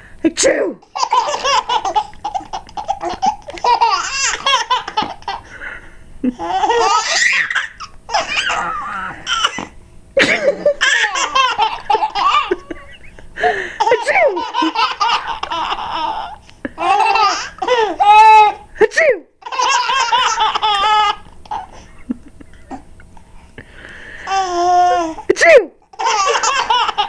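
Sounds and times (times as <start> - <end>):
babies giggling and laughing: 0.9 - 5.6, 6.2 - 18.7, 19.4 - 23.0, 24.2 - 27.0.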